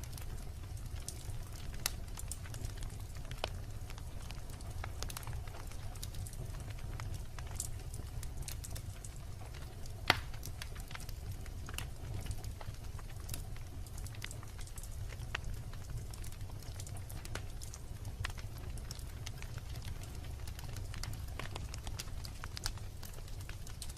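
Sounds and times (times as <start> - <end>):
logs crackling and popping: 0.0 - 23.9
low rumble of flames: 0.0 - 23.9.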